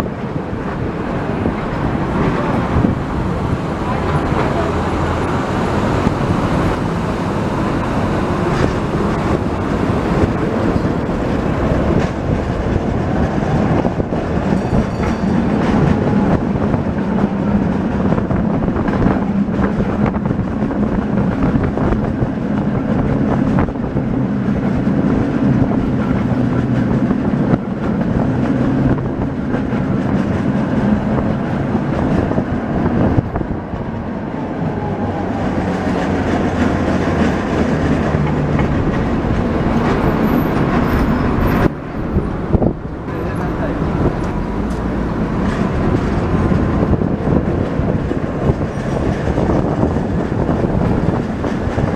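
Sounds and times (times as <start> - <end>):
tram rumbling on rails: 0.0 - 51.9
wheels clacking: 0.0 - 51.9.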